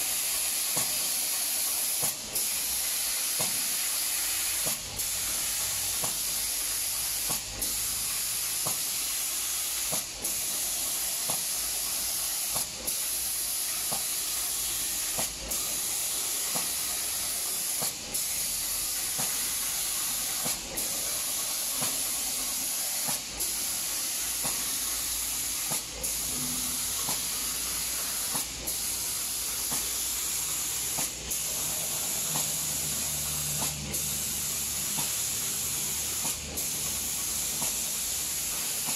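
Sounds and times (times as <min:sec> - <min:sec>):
spray guns hissing: 0:00.0 - 0:38.9.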